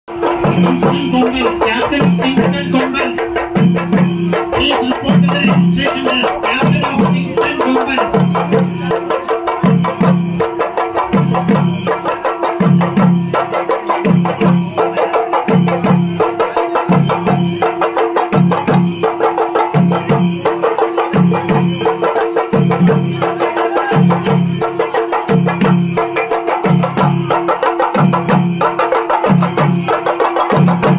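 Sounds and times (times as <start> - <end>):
drums beaten with sticks: 0.1 - 30.9.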